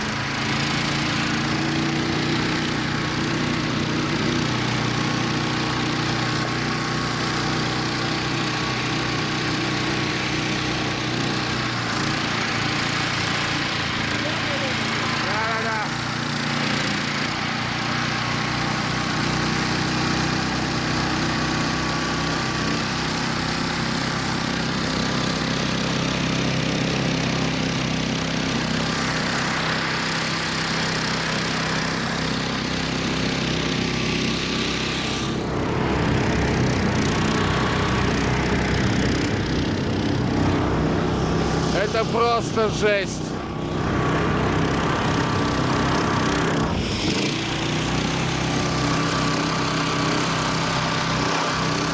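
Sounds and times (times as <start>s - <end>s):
vehicle engine running under load: 0.0s - 51.9s.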